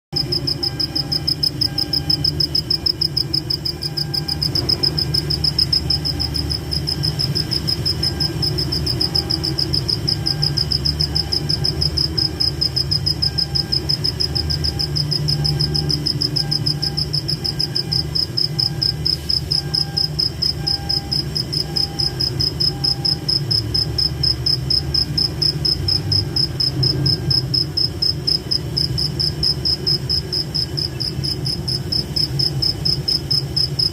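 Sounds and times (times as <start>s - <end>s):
cricket chirping: 0.2s - 33.9s
fainter lower insect call: 0.2s - 33.9s
low background hum: 0.2s - 33.9s.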